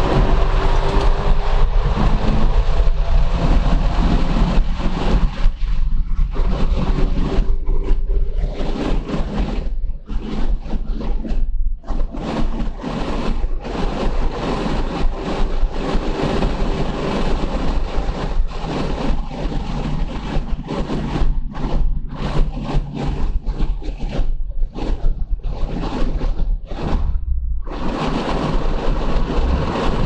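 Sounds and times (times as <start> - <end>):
car engine: 0.0 - 10.5, 11.8 - 25.0, 26.7 - 30.0
wind noise: 0.0 - 30.0.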